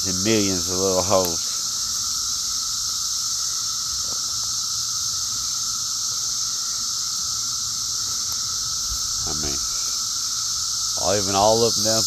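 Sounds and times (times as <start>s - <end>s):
cicada chorus drone: 0.0s - 12.0s.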